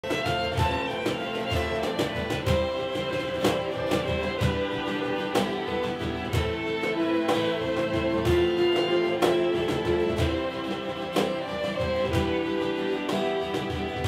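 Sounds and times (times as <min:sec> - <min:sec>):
acoustic guitars strumming: 0:00.0 - 0:14.0
violins holding long notes: 0:00.0 - 0:14.0.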